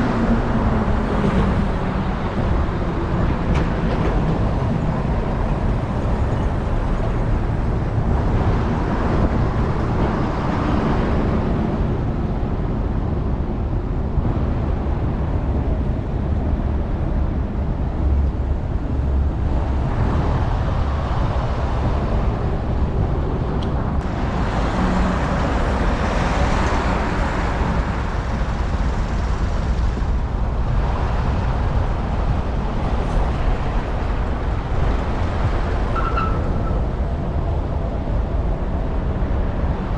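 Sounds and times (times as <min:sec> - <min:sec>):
passing road traffic: 0:00.0 - 0:39.9
wind rumble on microphone: 0:00.0 - 0:39.9.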